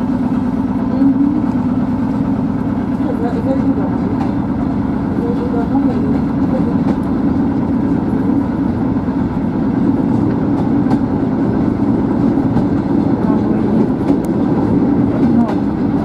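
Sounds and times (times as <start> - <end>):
passing freight train: 0.0 - 16.0
train rumbling on rails: 0.0 - 16.0.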